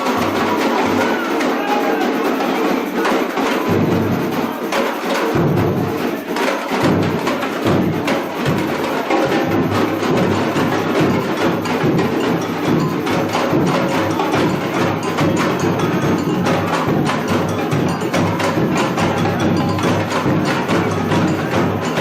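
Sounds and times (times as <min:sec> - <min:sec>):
drum ensemble playing: 0:00.0 - 0:22.0
sharp wood-block strikes: 0:00.0 - 0:22.0.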